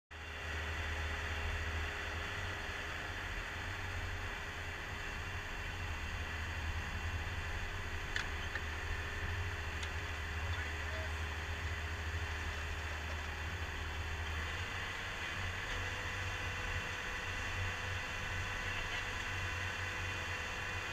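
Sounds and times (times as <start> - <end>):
diesel engine running under load: 0.1 - 20.9.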